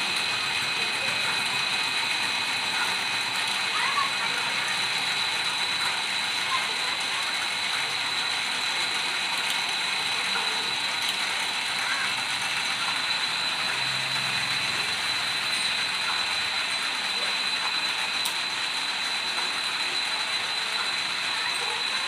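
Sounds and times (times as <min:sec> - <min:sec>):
lathe running with high whine: 0:00.0 - 0:22.0.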